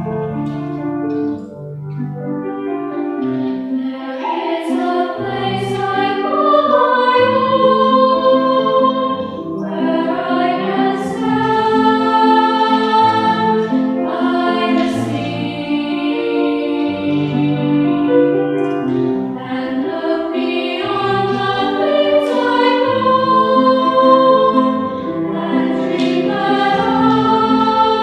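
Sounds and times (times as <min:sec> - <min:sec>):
piano accompaniment: 0:00.0 - 0:28.0
girls choir singing: 0:03.6 - 0:28.0.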